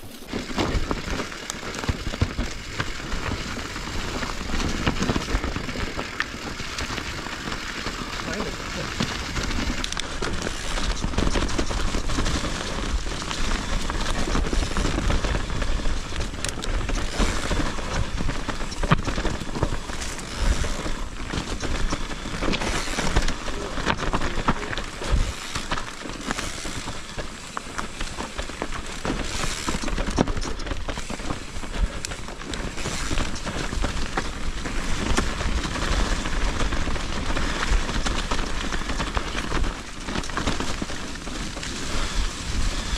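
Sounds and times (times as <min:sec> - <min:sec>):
bike rattling: 0:00.0 - 0:42.9
bike tyres crackling over leaves: 0:00.0 - 0:42.9.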